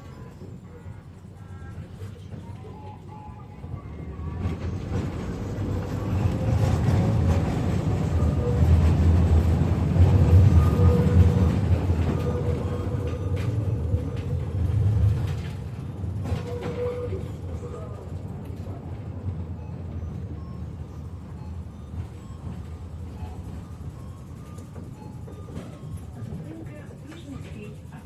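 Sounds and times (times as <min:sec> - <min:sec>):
tram wheels and motors rumbling: 0:00.0 - 0:28.0.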